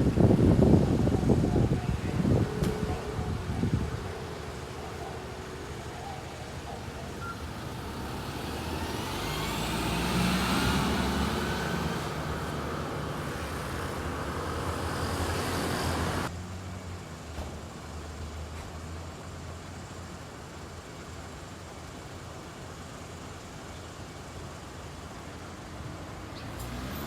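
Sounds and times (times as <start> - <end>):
fire truck engine: 0.0 - 27.0.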